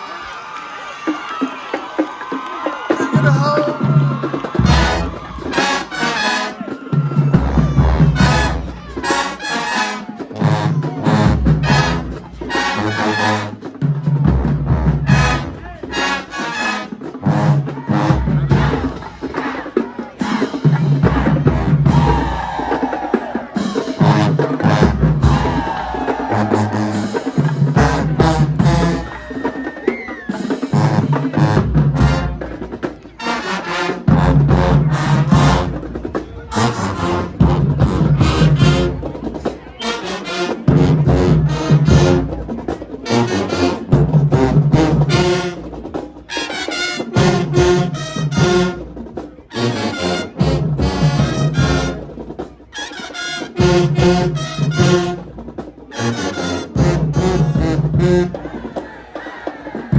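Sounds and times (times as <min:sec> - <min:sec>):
brass horns: 0:00.0 - 0:59.9
drumline: 0:00.0 - 0:59.9.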